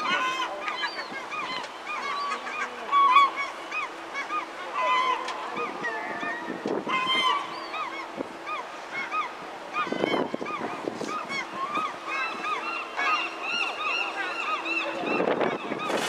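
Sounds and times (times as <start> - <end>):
birds honking: 0.0 - 16.0.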